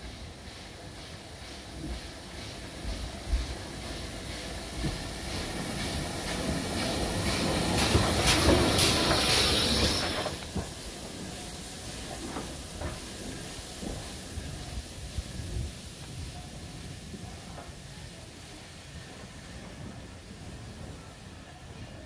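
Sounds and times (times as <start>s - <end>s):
hissing steam: 0.0s - 22.0s
steam locomotive passing: 0.0s - 22.0s.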